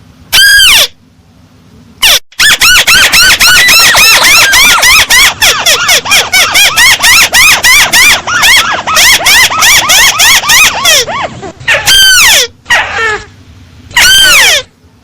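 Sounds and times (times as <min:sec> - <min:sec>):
crake calling with high squeals: 0:00.3 - 0:01.0, 0:02.0 - 0:14.8.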